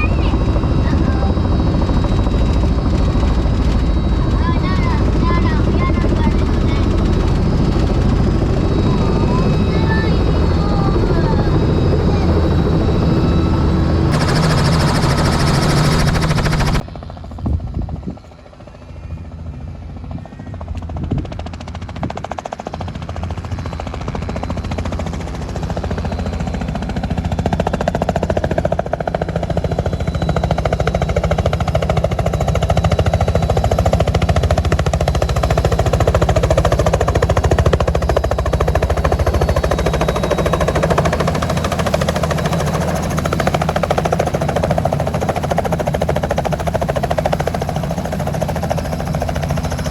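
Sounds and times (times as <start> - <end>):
helicopter engine and rotor: 0.0 - 49.9.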